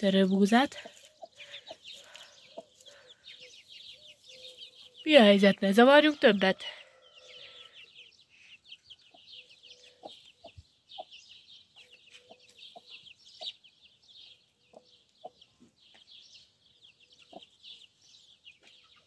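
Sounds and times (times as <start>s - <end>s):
high-pitched chick peeping: 0.0s - 19.0s.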